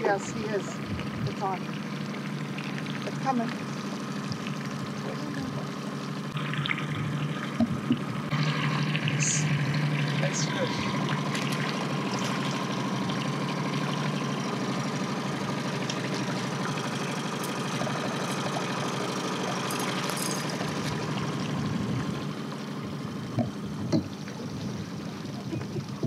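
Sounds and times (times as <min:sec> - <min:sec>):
outboard motor running: 0:00.0 - 0:26.0
fish splashing in water: 0:00.6 - 0:26.0.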